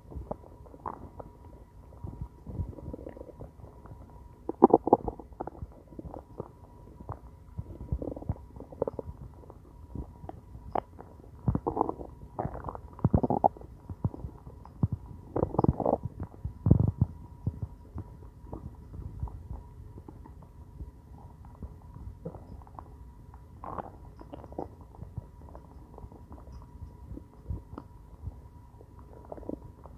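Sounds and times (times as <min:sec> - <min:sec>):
stomach growling and gurgling: 0:00.0 - 0:29.9.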